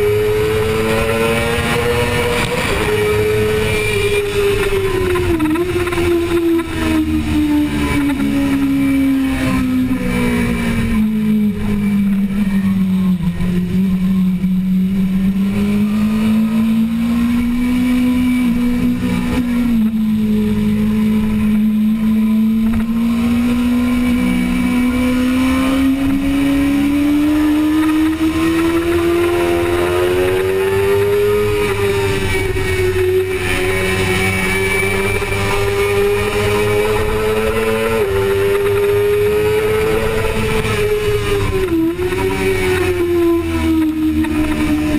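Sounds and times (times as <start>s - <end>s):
motorcycle engine at race pace: 0.0s - 44.9s.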